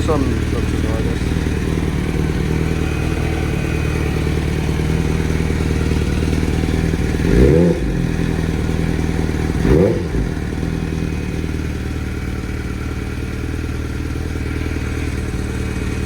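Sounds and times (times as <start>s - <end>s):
engine revving: 0.0s - 16.0s
motorcycle engine idling: 0.0s - 16.0s.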